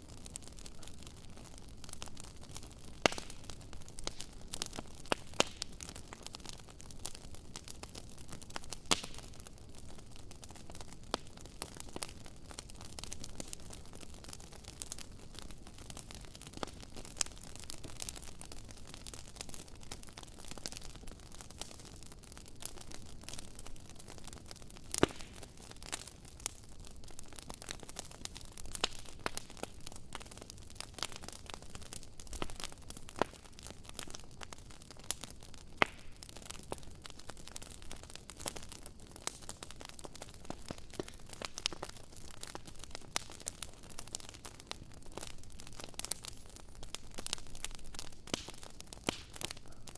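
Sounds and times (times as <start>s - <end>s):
wood fire crackling and popping: 0.0s - 49.9s.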